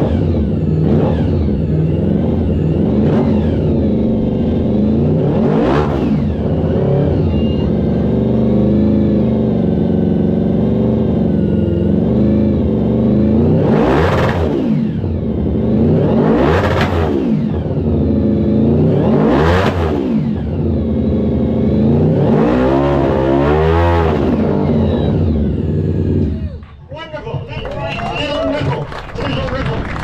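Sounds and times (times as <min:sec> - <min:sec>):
motorcycle engine revving: 0:00.0 - 0:26.8.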